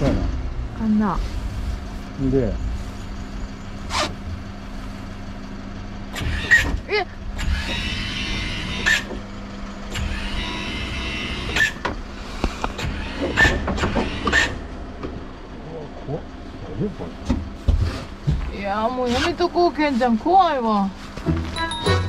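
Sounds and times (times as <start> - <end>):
lift motor humming: 0.0 - 20.2.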